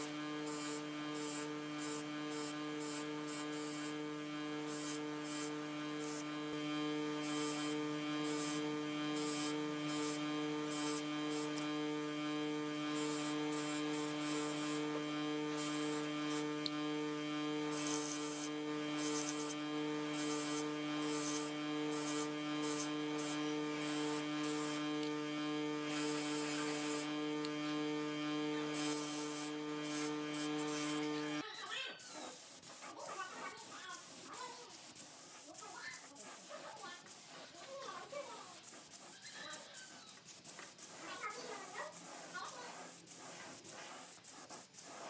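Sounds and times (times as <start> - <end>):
small electric motor whining: 0.0 - 45.0.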